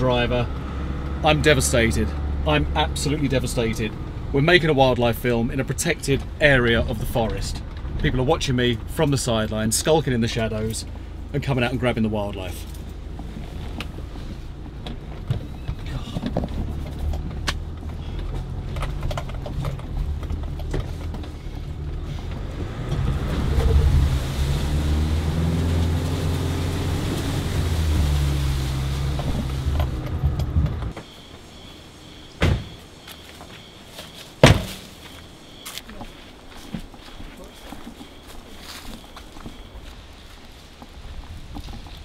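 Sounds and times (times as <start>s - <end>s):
pickup engine and cabin noise: 0.0s - 42.0s.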